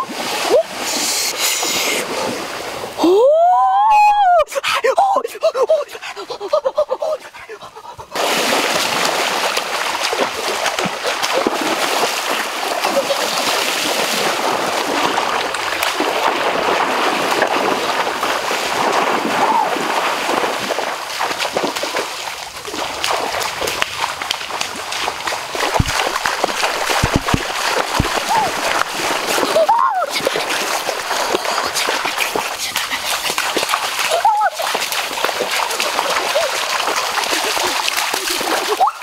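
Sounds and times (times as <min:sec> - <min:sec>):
water splashing from wading: 0:00.0 - 0:03.1, 0:05.9 - 0:39.0
flowing water rushing: 0:00.0 - 0:39.0.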